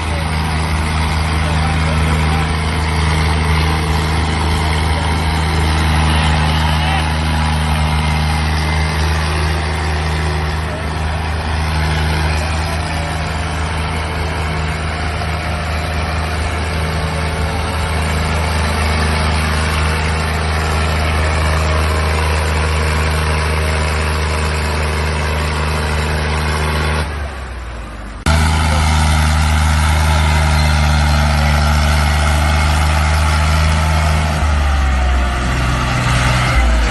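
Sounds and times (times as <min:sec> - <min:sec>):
diesel tractor engine running: 0:00.0 - 0:36.9.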